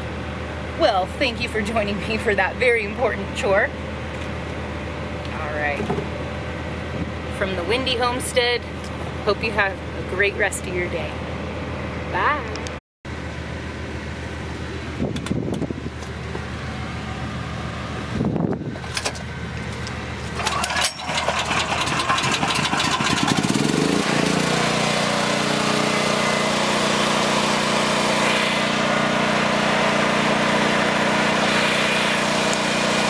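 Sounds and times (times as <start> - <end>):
generator engine running: 0.0 - 33.0.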